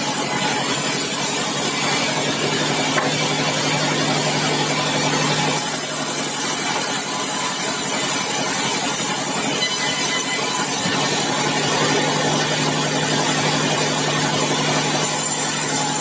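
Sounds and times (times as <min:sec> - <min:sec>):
saw cutting through log: 0:00.0 - 0:16.0.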